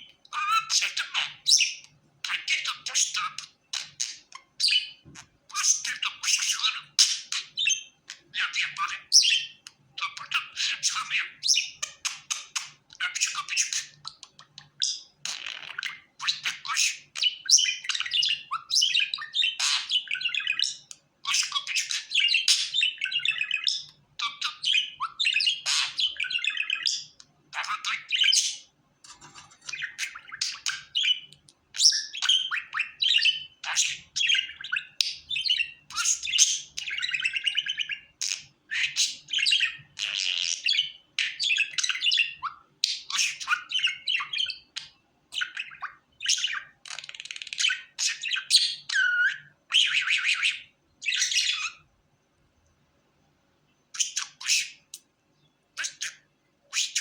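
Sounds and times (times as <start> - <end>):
budgerigar chattering and warbling: 0.3 - 51.9, 54.0 - 55.0, 55.8 - 57.0.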